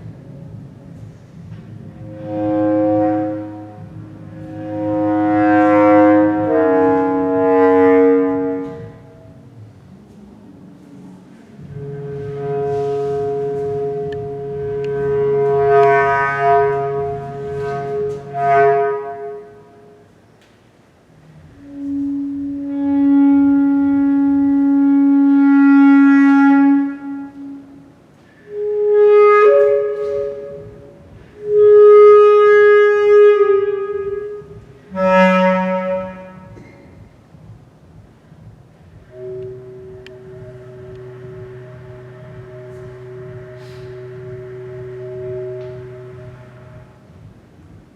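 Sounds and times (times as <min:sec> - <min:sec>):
bass clarinet sustained notes: 0:00.0 - 0:20.4, 0:21.0 - 0:47.9.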